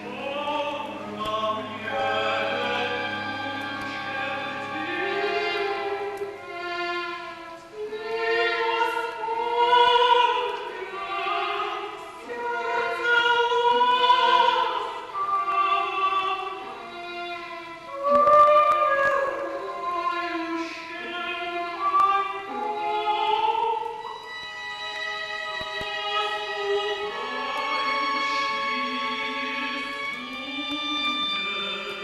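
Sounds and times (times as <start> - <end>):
woman singing: 0.0 - 24.2, 25.6 - 32.0
solo violin: 0.0 - 32.0
string orchestra: 0.0 - 32.0.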